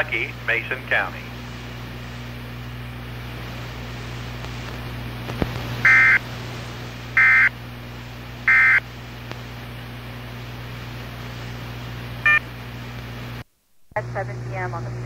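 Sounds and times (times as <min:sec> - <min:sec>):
radio hum and hiss: 0:00.0 - 0:15.0.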